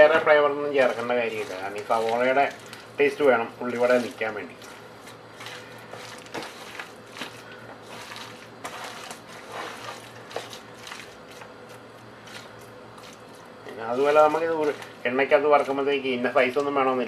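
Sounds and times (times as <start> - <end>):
hand squelching in wet batter: 0.7 - 15.1.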